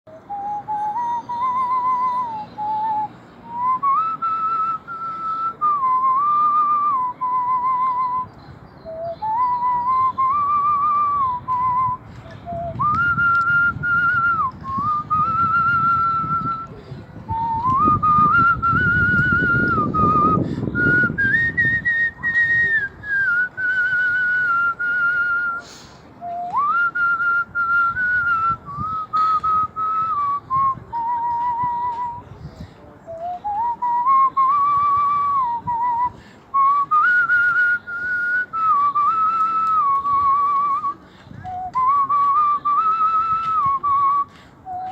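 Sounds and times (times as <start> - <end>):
man whistling a tune: 0.1 - 32.3, 33.0 - 44.9.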